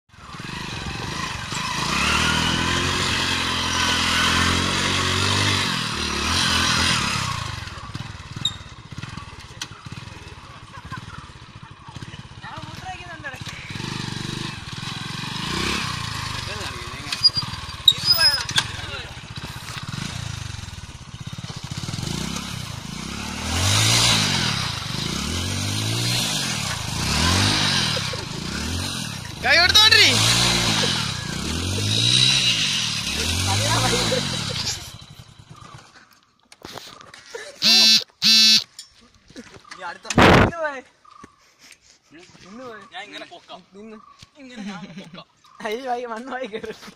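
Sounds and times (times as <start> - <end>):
motorcycle engine revving: 0.1 - 36.2, 36.9 - 38.7.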